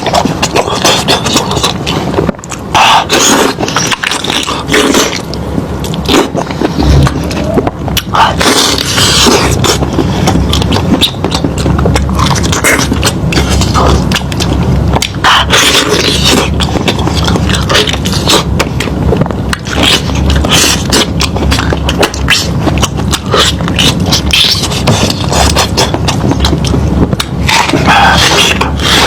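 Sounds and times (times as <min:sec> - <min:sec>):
crackly scraping: 0:00.0 - 0:29.0
meat being chewed and torn: 0:00.0 - 0:29.0.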